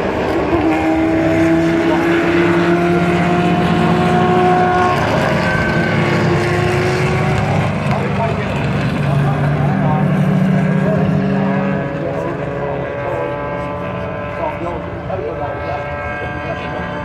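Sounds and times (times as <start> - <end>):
race car engines passing slowly: 0.0 - 17.0.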